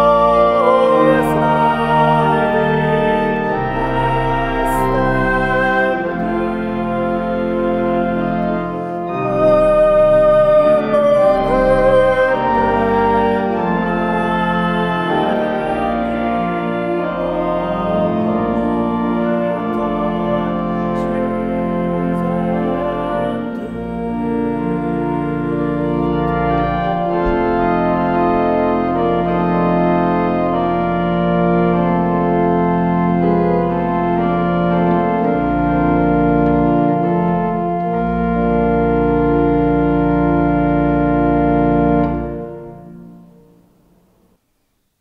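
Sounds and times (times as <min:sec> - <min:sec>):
church organ playing chords: 0:00.0 - 0:44.2.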